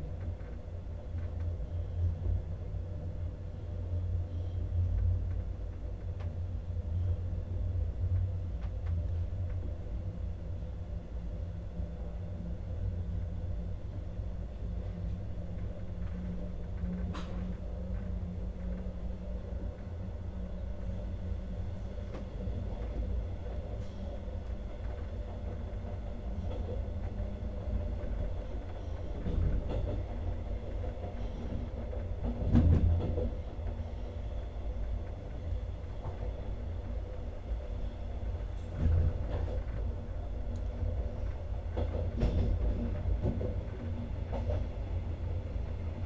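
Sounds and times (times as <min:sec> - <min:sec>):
faint hum: 0:00.0 - 0:46.0
train wheels rumbling on rails: 0:00.0 - 0:46.0.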